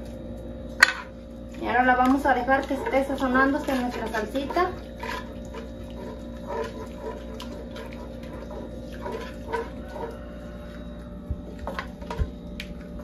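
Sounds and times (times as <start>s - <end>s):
salsa bubbling in a pot: 0.0s - 13.0s.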